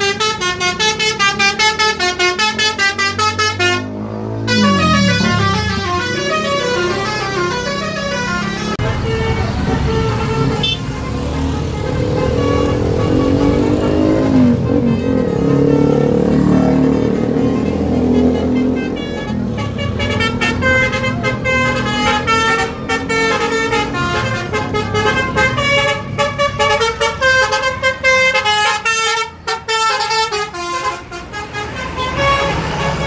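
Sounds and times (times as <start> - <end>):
bus engine running: 0.0 - 33.0
musical air horn tune: 0.0 - 33.0.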